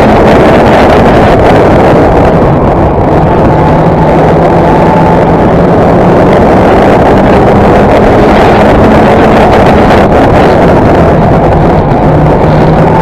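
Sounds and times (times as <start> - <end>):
race car engine running hard: 0.0 - 13.0
wind buffeting microphone: 0.0 - 13.0.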